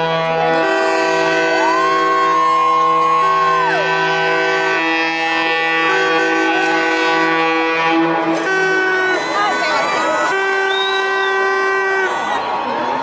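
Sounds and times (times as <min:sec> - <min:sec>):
ship horns sounding together: 0:00.0 - 0:12.6.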